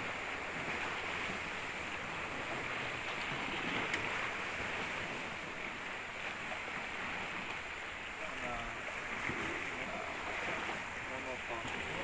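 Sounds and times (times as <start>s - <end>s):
moving water: 0.0s - 12.0s.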